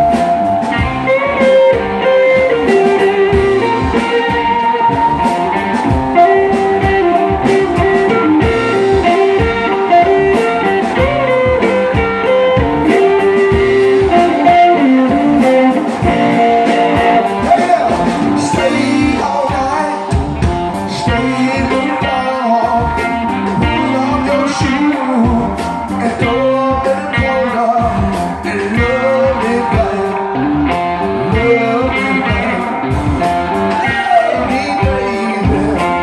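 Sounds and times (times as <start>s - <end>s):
bass guitar: 0.0s - 36.0s
drum kit beat: 0.0s - 36.0s
electric guitars: 0.0s - 36.0s.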